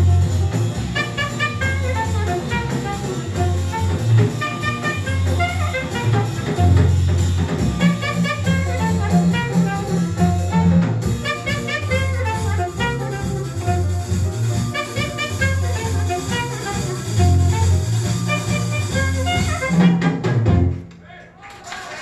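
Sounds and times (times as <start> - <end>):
bass line low notes: 0.0 - 20.8
jazz over loudspeakers: 0.0 - 20.9.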